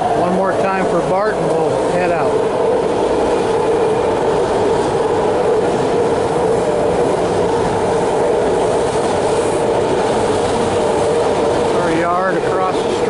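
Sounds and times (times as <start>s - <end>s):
train passing on elevated track: 0.0s - 13.0s.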